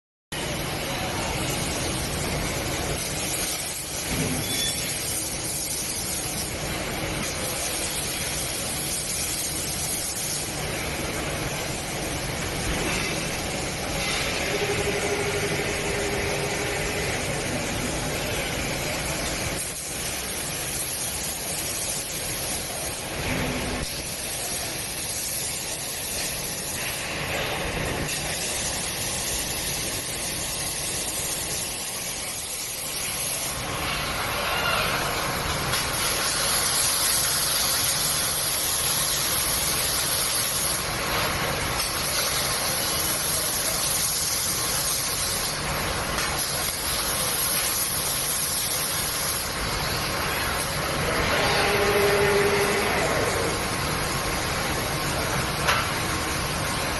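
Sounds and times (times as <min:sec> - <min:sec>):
machine noise: 0:00.3 - 0:56.9
welding arc hiss and crackle: 0:00.4 - 0:56.9.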